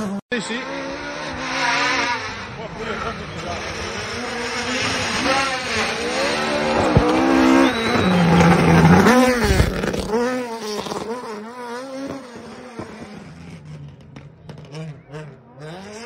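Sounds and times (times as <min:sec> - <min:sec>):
rally car engines revving: 0:00.0 - 0:16.0.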